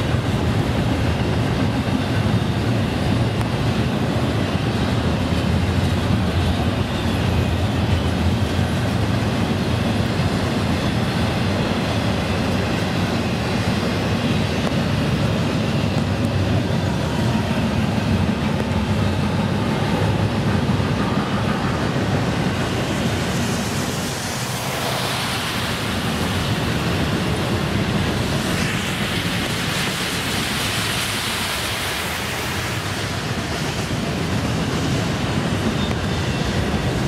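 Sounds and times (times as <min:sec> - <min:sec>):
freight train wheels rumbling: 0:00.0 - 0:37.0
tyres hissing on wet pavement: 0:00.0 - 0:37.0.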